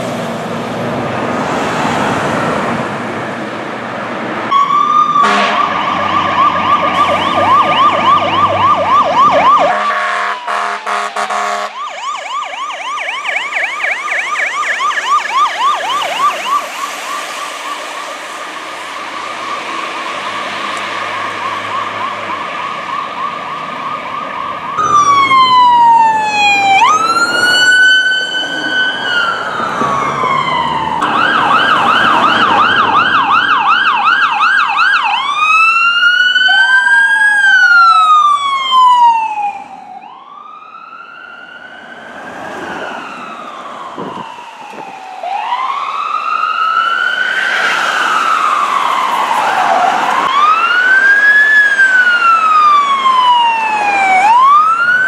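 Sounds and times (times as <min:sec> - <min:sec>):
emergency vehicle sirens: 0:00.0 - 0:55.0.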